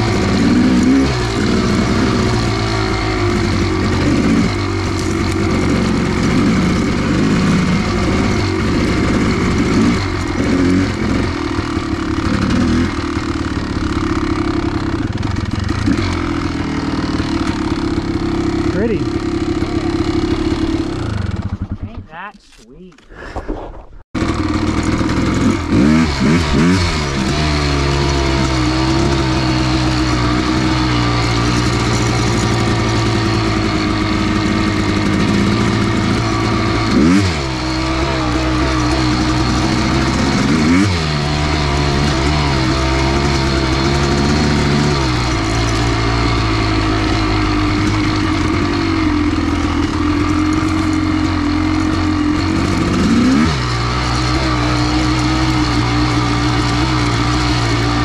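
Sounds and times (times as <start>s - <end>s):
two-stroke motorcycle engine revving: 0.0s - 22.6s, 24.2s - 58.0s.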